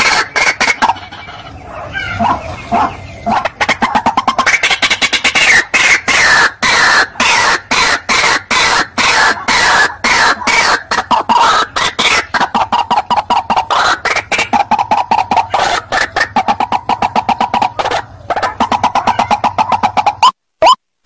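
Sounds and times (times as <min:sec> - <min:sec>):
waterhen harsh repeated calls: 0:00.0 - 0:20.8.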